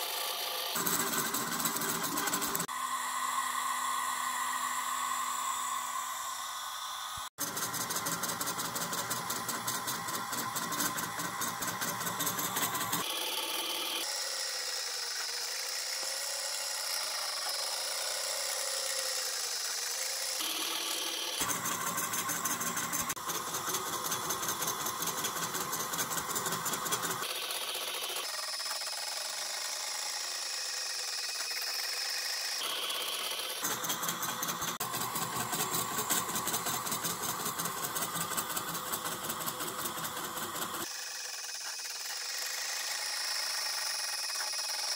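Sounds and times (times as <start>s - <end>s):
laser engraver whine and hiss: 0.0s - 29.0s, 29.8s - 44.9s
stepper motors buzzing whir: 0.0s - 44.9s.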